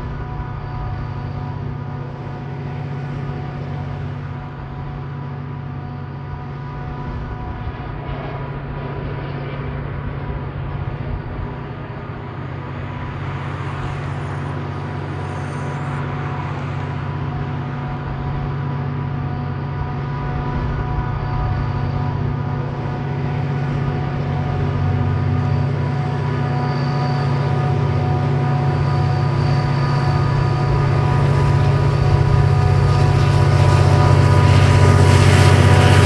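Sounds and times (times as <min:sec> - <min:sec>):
diesel locomotive engine hum: 0:00.0 - 0:36.0.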